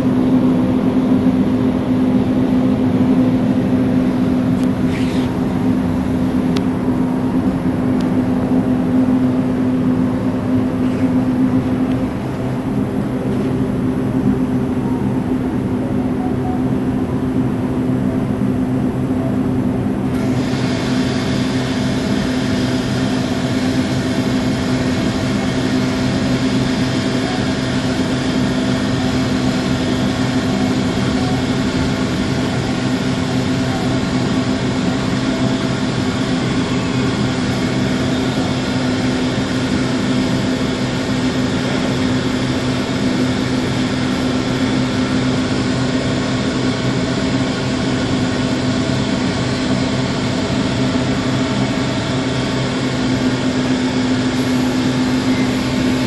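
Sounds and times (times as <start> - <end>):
ventilation fans humming: 0.0 - 56.0.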